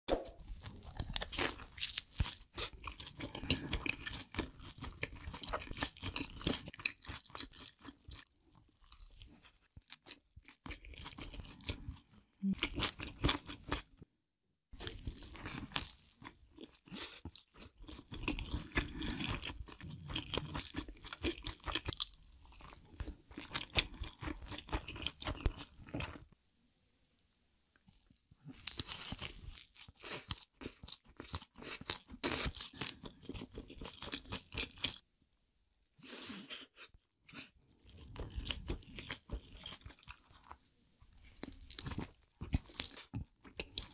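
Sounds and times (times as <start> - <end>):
person crunching and chewing: 0.5 - 13.9, 14.8 - 26.2, 28.0 - 35.0, 37.3 - 43.9.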